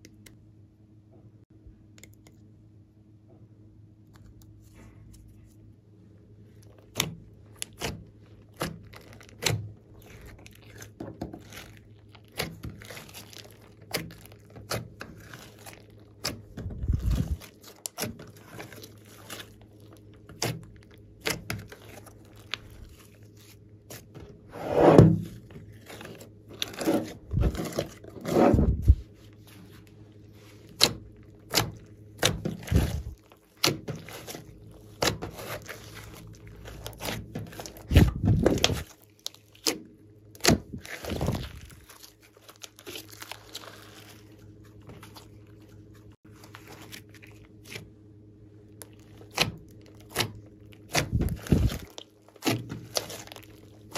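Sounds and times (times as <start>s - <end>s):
slime squelches: 4.1s - 53.9s
slime squished by hand: 6.5s - 48.0s, 48.6s - 53.9s.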